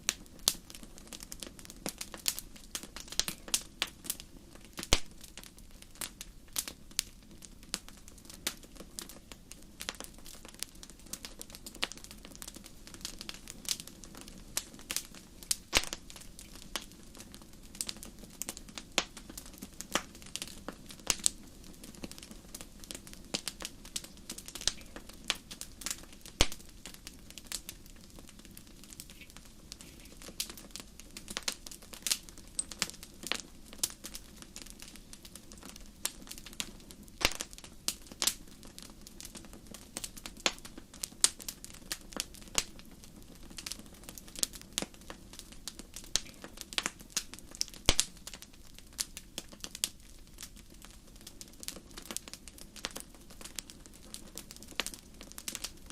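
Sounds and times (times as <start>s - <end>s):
low fire rumble: 0.0s - 55.9s
wood fire crackling and popping: 0.0s - 55.9s.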